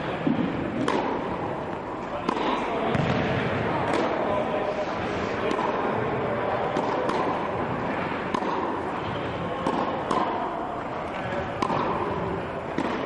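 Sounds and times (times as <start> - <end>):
tennis ball bounces: 0.3 - 1.4, 2.2 - 4.2, 5.4 - 13.0
tennis racket strokes: 0.8 - 2.8, 3.8 - 6.0, 6.6 - 13.0.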